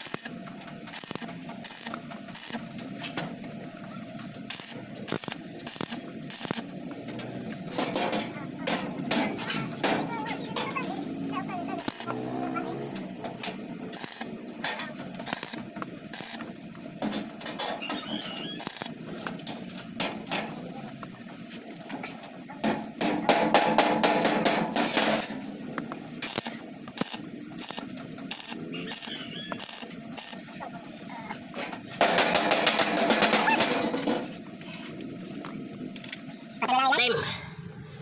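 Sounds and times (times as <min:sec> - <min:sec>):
arc welding crackling: 0:00.0 - 0:36.7.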